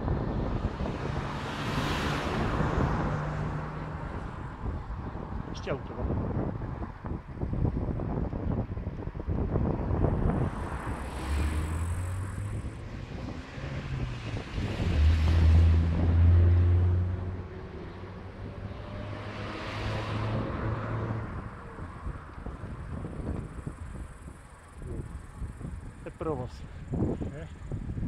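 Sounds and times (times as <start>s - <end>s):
cars passing: 0.0s - 28.0s
wind buffeting microphone: 0.0s - 28.0s.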